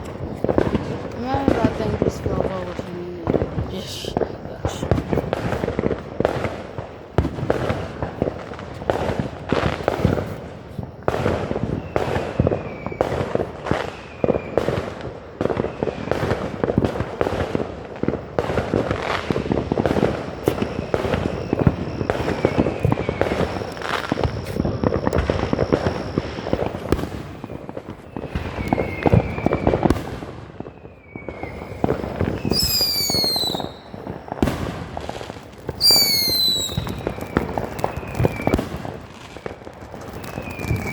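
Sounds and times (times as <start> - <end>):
fireworks crackling and popping: 0.0 - 40.9
fireworks falling whistles: 0.0 - 40.9.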